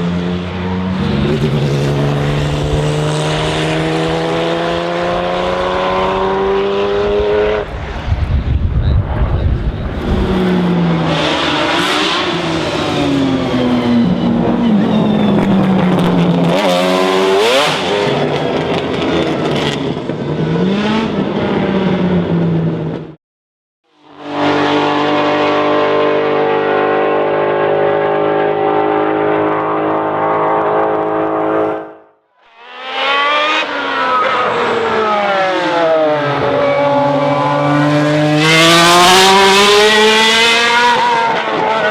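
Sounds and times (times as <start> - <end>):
racing car engine revving: 0.0 - 22.3, 24.1 - 41.9.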